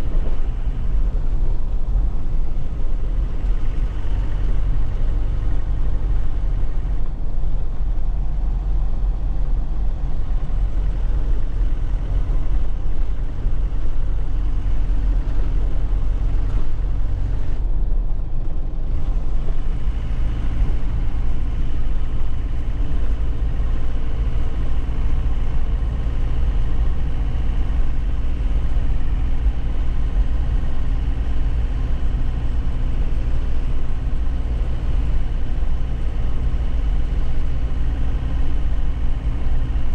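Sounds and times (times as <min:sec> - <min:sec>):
diesel truck engine running: 0:00.0 - 0:39.9
road noise on rough surface: 0:00.0 - 0:39.9.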